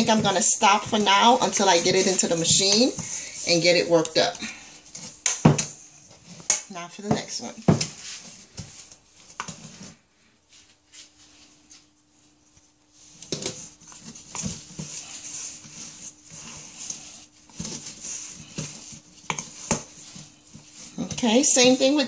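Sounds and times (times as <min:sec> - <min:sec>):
spoon stirring dough in metal bowl: 0:00.0 - 0:10.0, 0:12.9 - 0:22.0.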